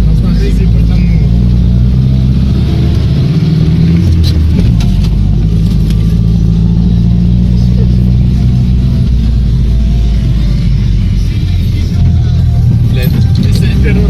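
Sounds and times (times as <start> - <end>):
off-road vehicle engine under load: 0.0 - 14.0.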